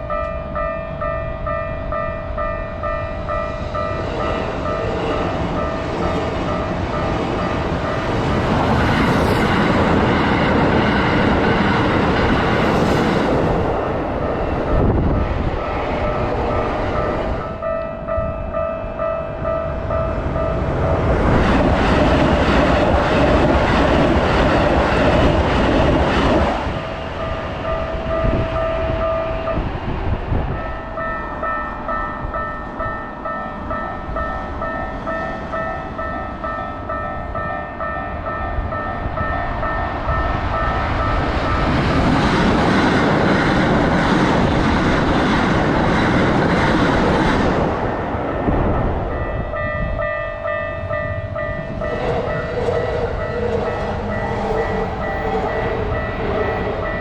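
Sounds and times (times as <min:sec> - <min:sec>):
electric train rushing past: 0:00.0 - 0:57.0.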